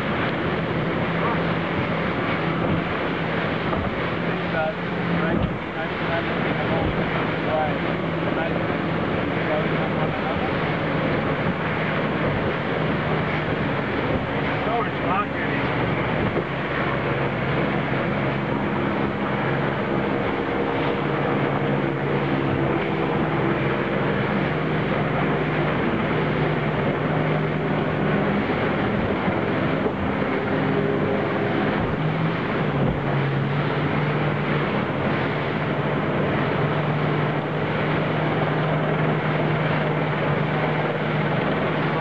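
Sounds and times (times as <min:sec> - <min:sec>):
motorboat engine droning: 0:00.0 - 0:42.0
rush of wind and water: 0:00.0 - 0:42.0.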